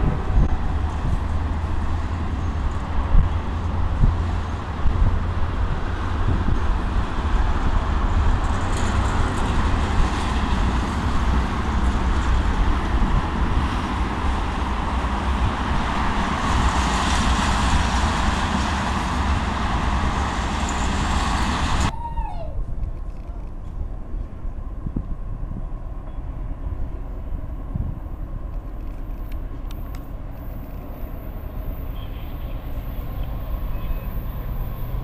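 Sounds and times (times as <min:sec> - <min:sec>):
freight train rolling past: 0:00.0 - 0:22.2, 0:23.7 - 0:35.0.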